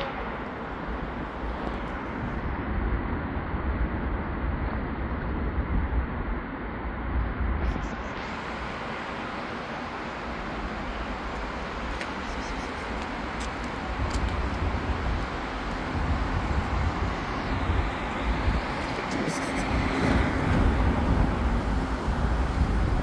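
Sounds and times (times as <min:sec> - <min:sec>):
road traffic rumble and hiss: 0:00.0 - 0:23.0.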